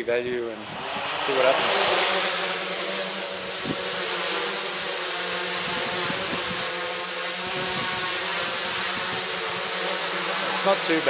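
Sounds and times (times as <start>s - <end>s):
quadcopter propellers whirring: 0.0s - 11.0s.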